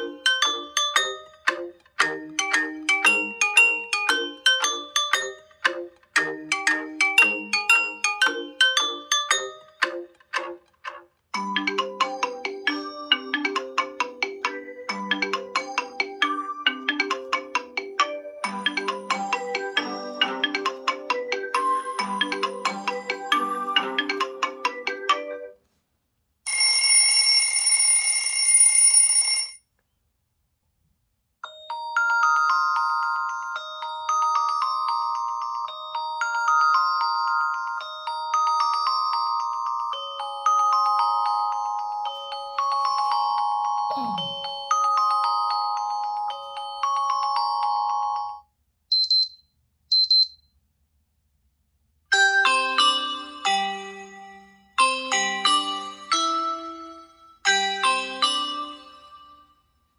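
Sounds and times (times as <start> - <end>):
melodic ringtone: 0.0 - 25.6, 31.4 - 48.5, 52.1 - 59.6.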